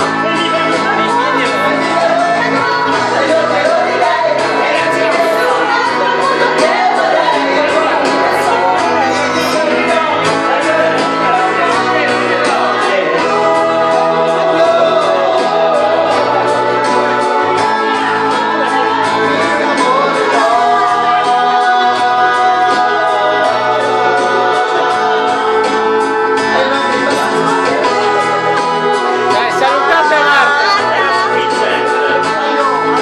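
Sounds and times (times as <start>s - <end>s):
man singing: 0.0s - 33.0s
pop backing track: 0.0s - 33.0s
woman singing: 0.4s - 25.8s, 26.4s - 33.0s.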